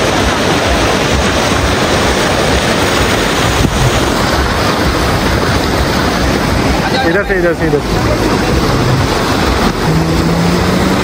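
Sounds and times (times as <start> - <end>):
wind buffeting microphone: 0.0 - 10.2
surf breaking on shore: 0.0 - 11.0.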